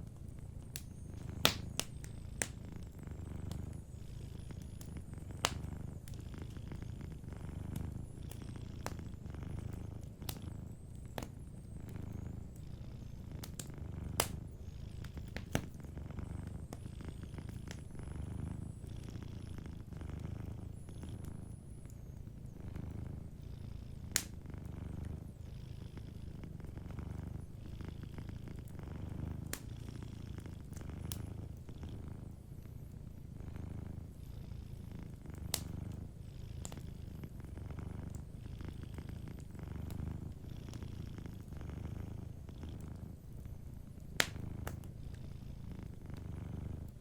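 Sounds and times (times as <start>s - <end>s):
wood fire popping: 0.0s - 23.4s, 24.0s - 25.4s, 28.4s - 32.1s, 35.1s - 45.2s
cat purring: 0.0s - 47.0s.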